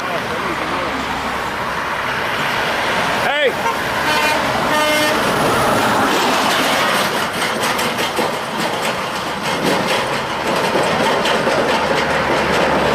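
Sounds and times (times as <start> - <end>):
heavy trucks passing: 0.0 - 12.9
trailer rattling over road joints: 0.0 - 12.9.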